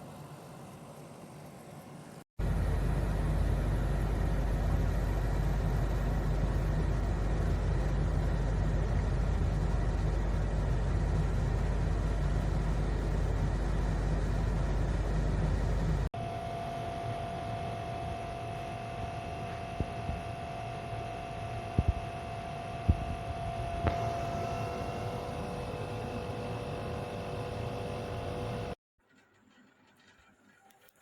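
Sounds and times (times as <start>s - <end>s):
dehumidifier running: 0.0s - 28.8s
quieter steady hum: 0.0s - 28.8s.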